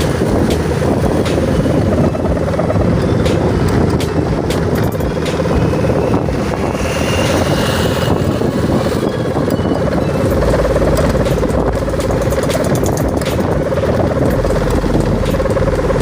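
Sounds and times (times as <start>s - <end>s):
kite hummer droning buzz: 0.0s - 16.0s
wind rumble on microphone: 0.0s - 16.0s.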